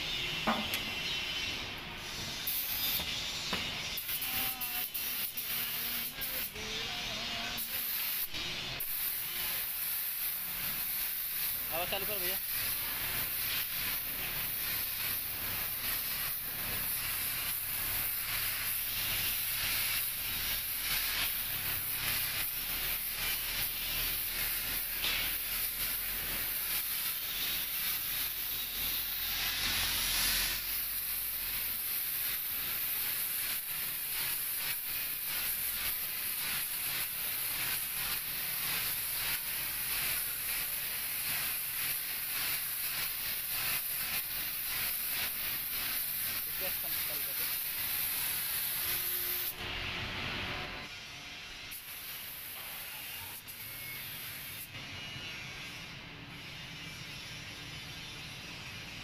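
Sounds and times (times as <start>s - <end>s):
paint spray gun hissing: 2.0s - 49.6s, 51.7s - 54.7s.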